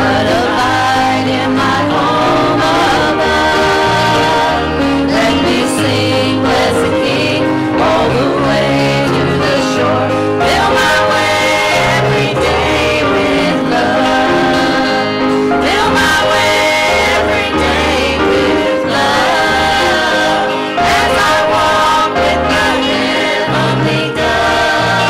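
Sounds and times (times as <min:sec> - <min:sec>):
acoustic and electric guitars: 0:00.0 - 0:25.0
group singing gospel song: 0:00.0 - 0:25.0.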